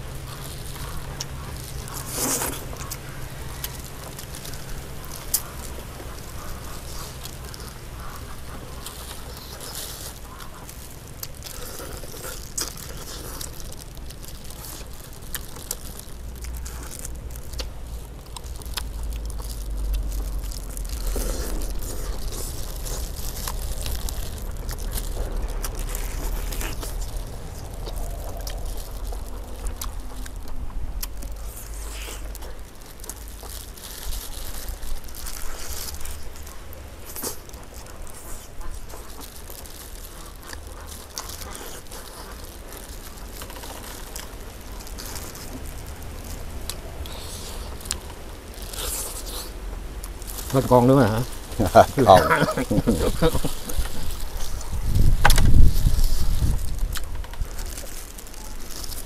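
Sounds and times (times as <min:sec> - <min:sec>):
low rumble: 0:00.0 - 0:50.6, 0:51.2 - 0:59.0
chewing and crunching: 0:00.0 - 0:59.0.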